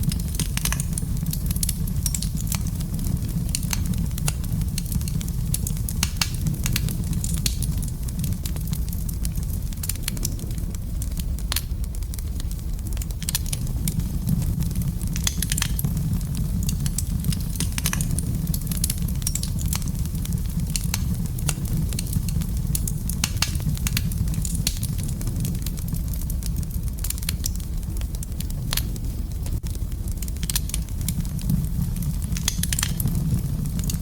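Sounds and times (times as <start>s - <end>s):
fire crackling and popping: 0.0s - 34.0s
fire rumbling: 0.0s - 34.0s.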